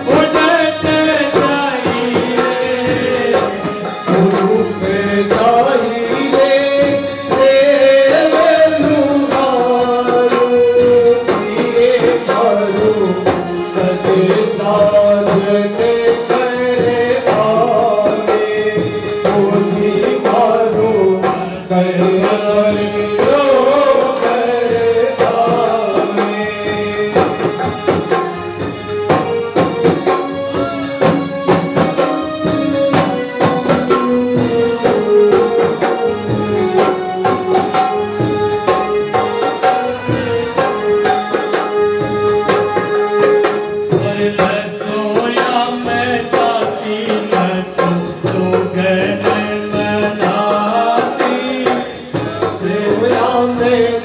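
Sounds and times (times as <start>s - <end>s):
hand percussion with jingles: 0.0s - 20.5s, 23.2s - 54.0s
folk music melody: 0.0s - 54.0s.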